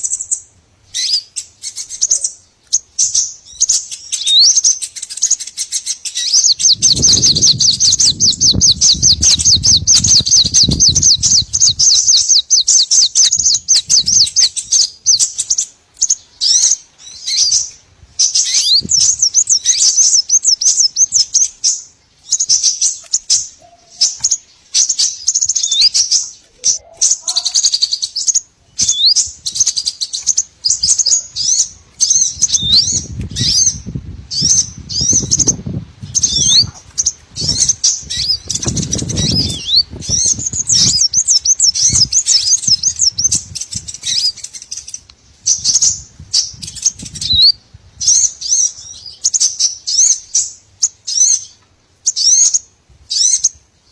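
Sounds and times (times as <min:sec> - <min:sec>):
songbirds twittering and chirping: 0:00.0 - 0:53.9.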